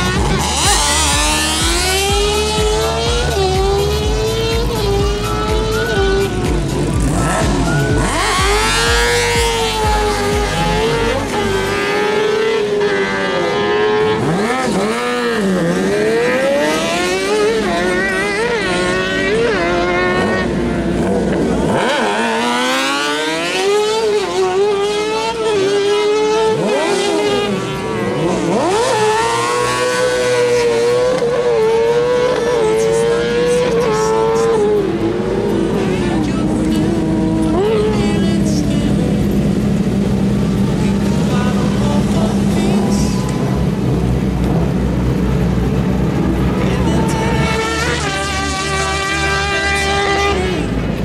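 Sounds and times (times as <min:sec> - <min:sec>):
kart engines revving and accelerating: 0:00.0 - 0:51.0.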